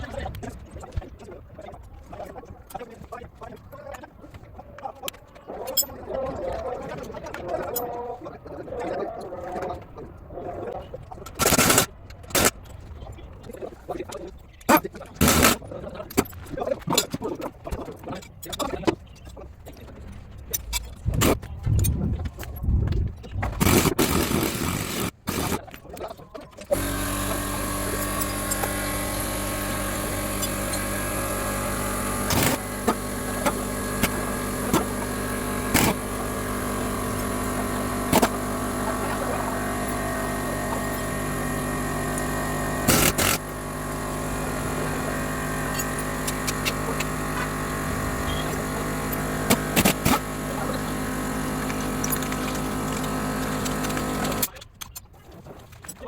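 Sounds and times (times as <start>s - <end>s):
motor running: 0.0s - 13.7s, 14.7s - 16.1s, 19.9s - 21.4s, 23.4s - 25.7s, 26.5s - 54.6s.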